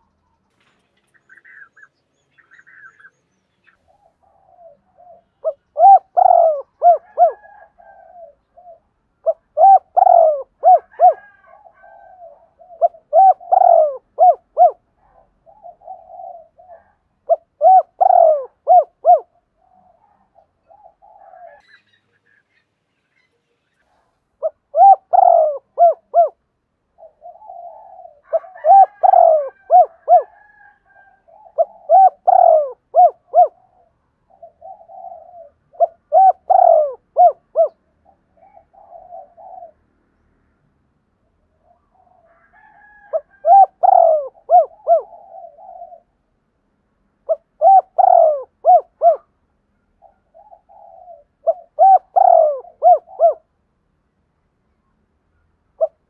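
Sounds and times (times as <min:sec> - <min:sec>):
dove cooing: 0:03.8 - 0:21.7, 0:23.9 - 0:39.9, 0:41.6 - 0:46.3, 0:47.2 - 0:53.5, 0:55.8 - 0:56.0.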